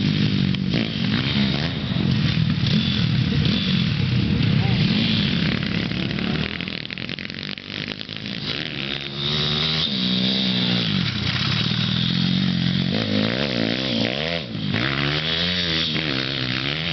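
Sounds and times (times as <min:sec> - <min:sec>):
motorbike engine revving: 0:00.0 - 0:16.9.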